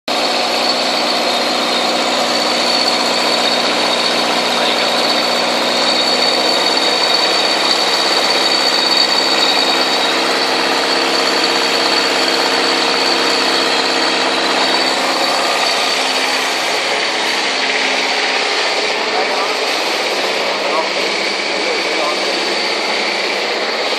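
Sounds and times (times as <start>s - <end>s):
pump engine droning: 0.1s - 23.9s
steady high whine: 0.1s - 23.9s.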